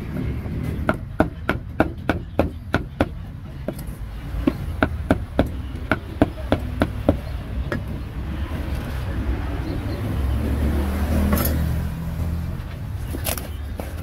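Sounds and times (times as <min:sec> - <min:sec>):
passing motor vehicle rumble: 0:00.0 - 0:14.0.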